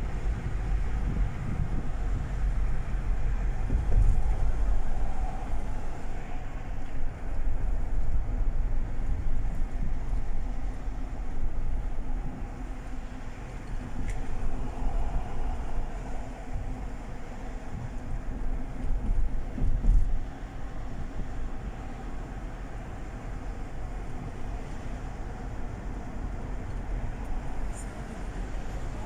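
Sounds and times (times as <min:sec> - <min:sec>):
vehicle interior road and engine rumble: 0:00.0 - 0:29.0.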